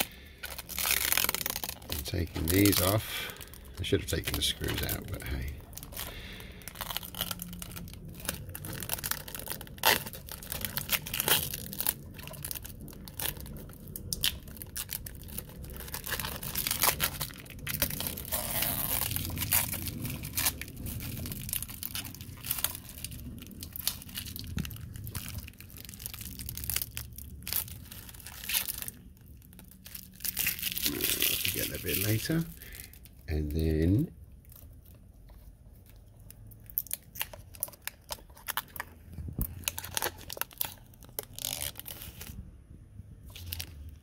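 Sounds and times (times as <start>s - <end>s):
plastic film peeling and crinkling: 0.0s - 42.5s, 43.2s - 44.0s.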